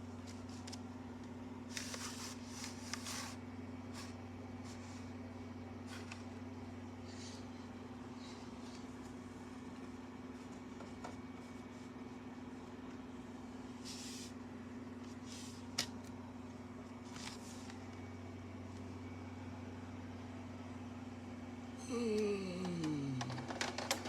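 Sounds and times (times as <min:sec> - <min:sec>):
low hum with hiss: 0:00.0 - 0:24.0.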